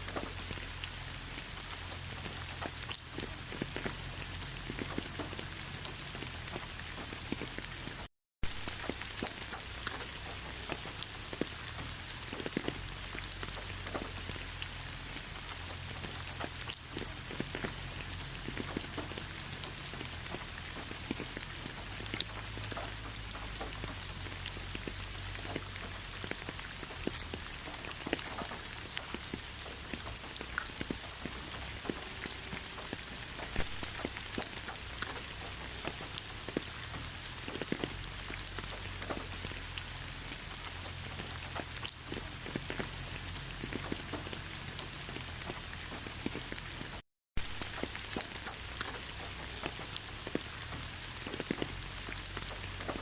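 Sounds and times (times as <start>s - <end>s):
raindrops ticking: 0.0s - 53.0s
steady rain: 0.0s - 53.0s.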